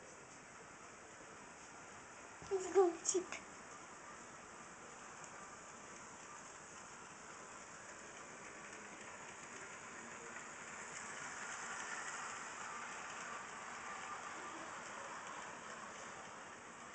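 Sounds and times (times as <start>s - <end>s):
model train whirring on track: 0.0s - 16.9s.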